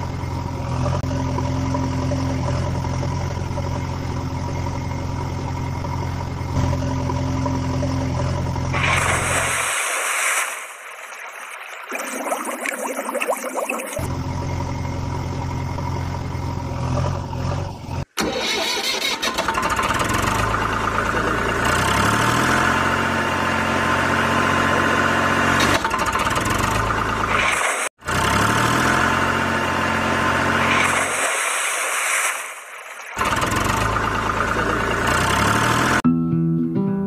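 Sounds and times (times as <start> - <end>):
vehicle engine idling and revving: 0.0 - 9.6, 14.0 - 31.9, 32.6 - 36.0.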